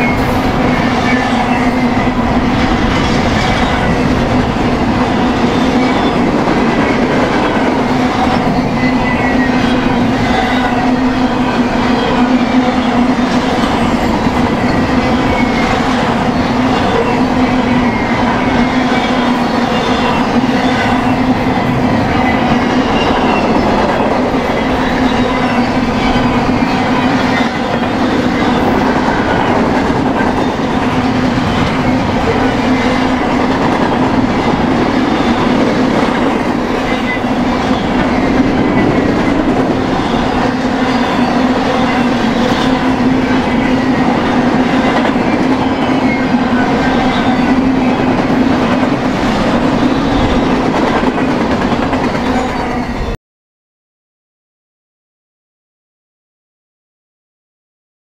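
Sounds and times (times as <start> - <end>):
freight train rolling past: 0.0 - 53.2.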